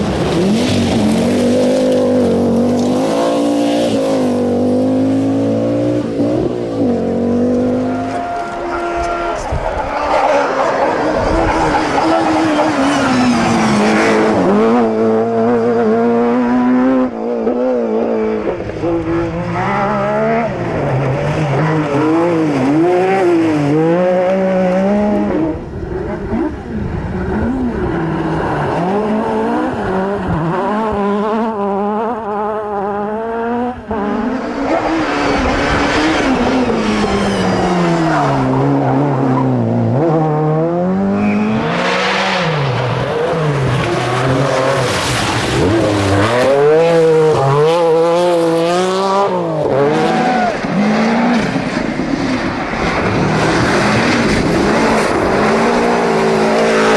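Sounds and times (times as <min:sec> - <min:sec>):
rally car engine revving: 0:00.0 - 0:56.9.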